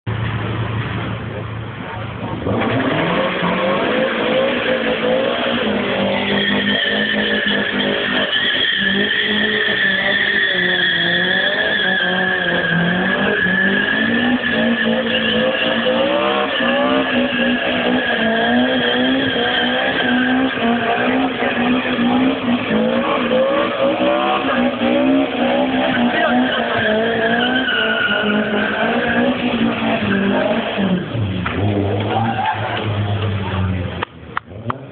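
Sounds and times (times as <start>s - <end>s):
car engine revving: 0.2s - 34.9s
tyres squealing on wet tarmac: 2.8s - 31.3s.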